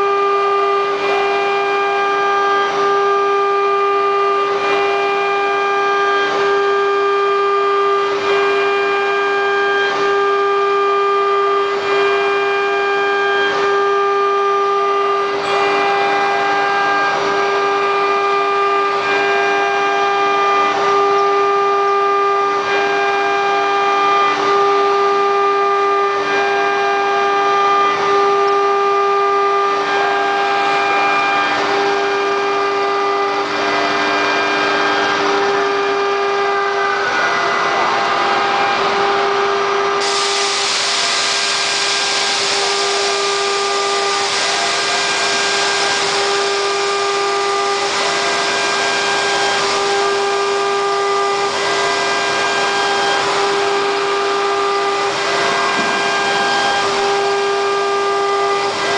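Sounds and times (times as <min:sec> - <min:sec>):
router spindle whining: 0:00.0 - 0:58.9.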